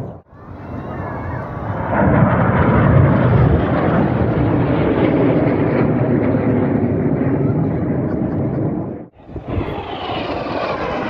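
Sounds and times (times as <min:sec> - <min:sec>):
jet aircraft roar: 0:00.0 - 0:11.0.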